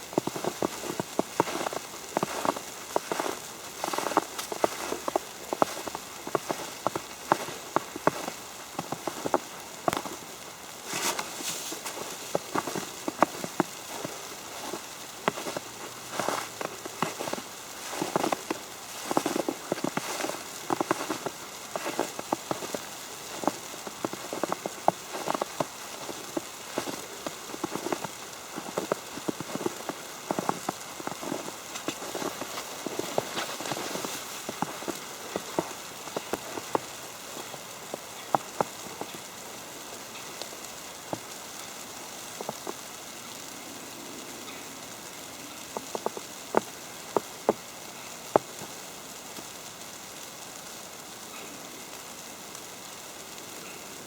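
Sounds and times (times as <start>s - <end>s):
snow ticking on an umbrella: 0.0s - 54.0s.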